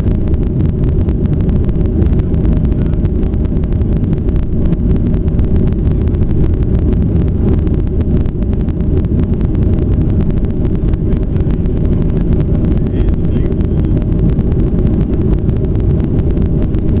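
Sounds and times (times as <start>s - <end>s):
jet engine roar in cabin: 0.0s - 17.0s.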